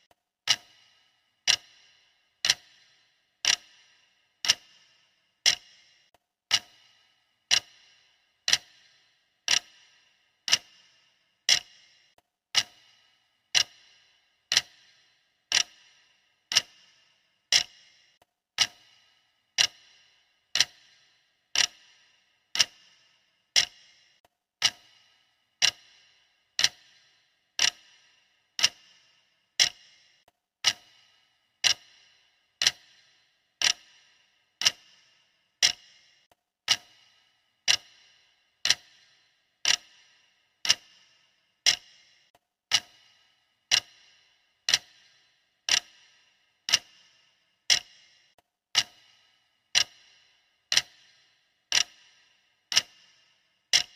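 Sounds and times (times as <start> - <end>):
clock ticking: 0.0 - 53.9.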